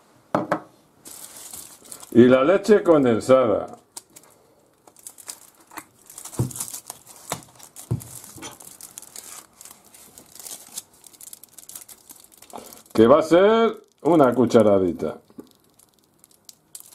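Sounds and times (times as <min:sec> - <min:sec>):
aluminium foil crinkling: 0:01.0 - 0:03.1, 0:03.8 - 0:16.9.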